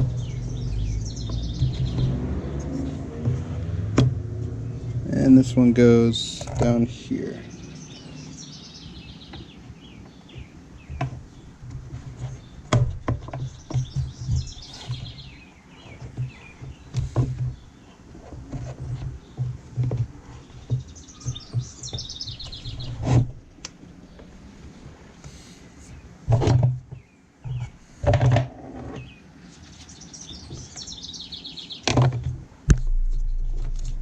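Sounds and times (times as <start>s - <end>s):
small birds chirping: 0.0s - 3.6s, 4.4s - 26.2s, 26.8s - 27.9s, 28.9s - 34.0s.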